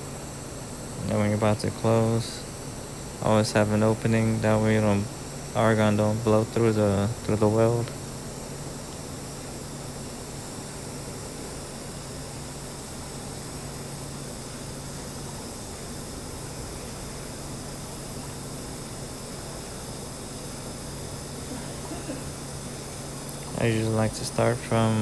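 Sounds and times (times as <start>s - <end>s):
tig welding hiss and hum: 0.0s - 25.0s.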